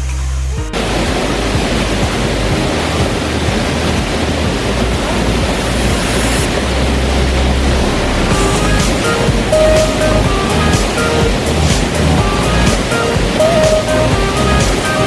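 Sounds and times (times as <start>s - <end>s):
waterfall roaring: 0.7s - 15.0s.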